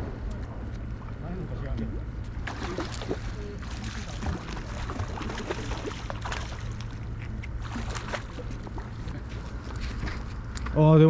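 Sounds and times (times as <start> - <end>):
water lapping against seawall: 0.3 - 10.3.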